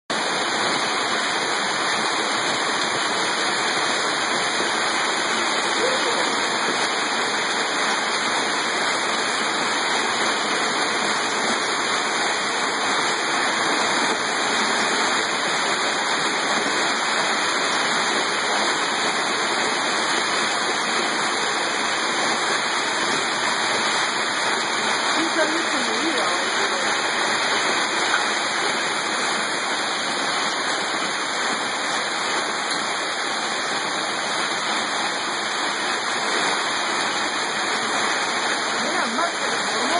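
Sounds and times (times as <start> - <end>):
hail and rain pelting: 0.1 - 39.9.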